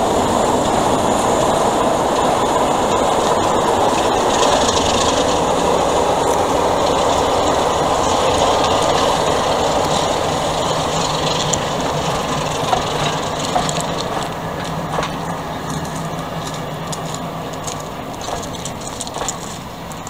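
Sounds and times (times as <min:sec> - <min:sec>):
diesel locomotive engine: 0:00.0 - 0:20.0
wheels clicking over rail joints: 0:00.0 - 0:20.0.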